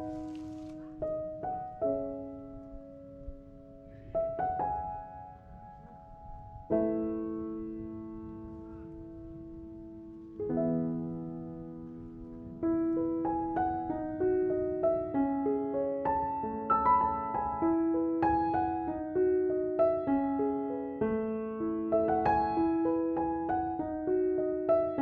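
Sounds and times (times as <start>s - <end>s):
slow solo piano music: 0.0s - 25.0s.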